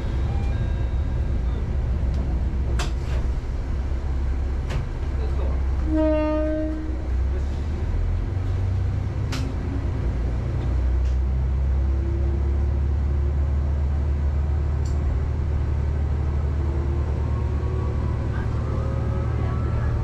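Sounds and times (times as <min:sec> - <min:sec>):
diesel railcar engine rumble: 0:00.0 - 0:20.0.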